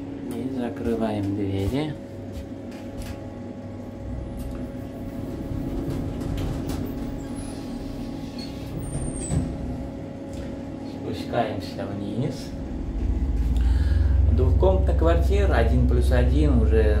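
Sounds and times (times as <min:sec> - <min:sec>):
lift mechanical hum: 0:00.0 - 0:17.0.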